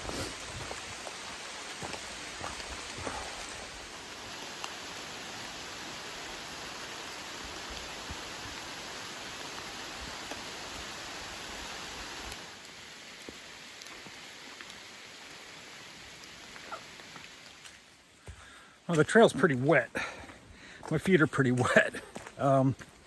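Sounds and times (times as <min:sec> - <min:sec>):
steady rain hiss: 0:00.0 - 0:23.0
raindrops ticking: 0:00.4 - 0:23.0.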